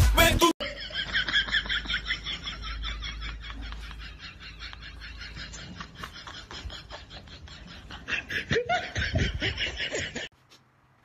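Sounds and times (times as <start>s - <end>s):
person laughing: 0.6s - 10.3s.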